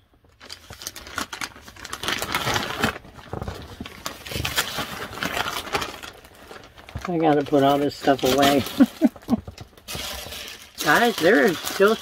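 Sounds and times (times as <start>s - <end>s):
clothing rustling: 0.4s - 11.9s.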